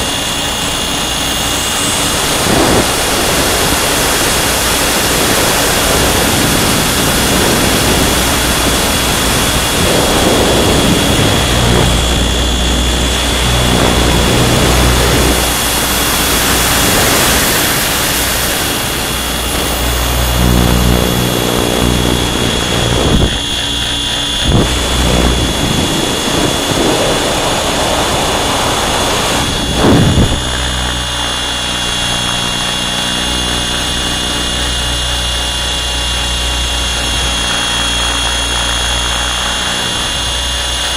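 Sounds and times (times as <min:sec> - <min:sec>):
helicopter high whine: 0:00.0 - 0:40.9
low rotor hum: 0:00.0 - 0:40.9
wind rushing across microphone: 0:00.0 - 0:40.9.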